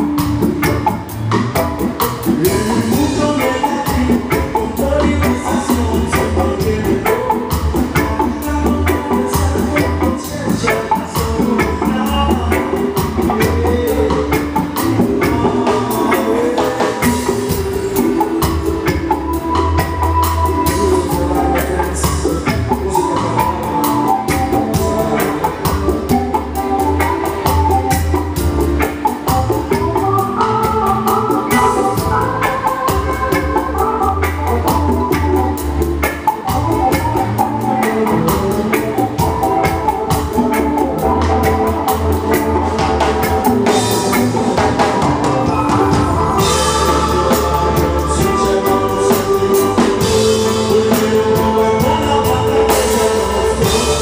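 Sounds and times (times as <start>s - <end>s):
bass guitar: 0.0s - 54.0s
drum kit beat: 0.0s - 54.0s
electric guitars: 0.0s - 54.0s
hand drum: 0.0s - 54.0s
keyboard organ sound: 0.0s - 54.0s.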